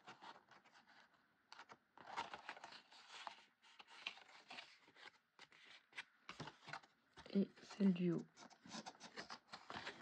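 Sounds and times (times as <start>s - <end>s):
cardstock rustling and crinkling: 0.0s - 10.0s.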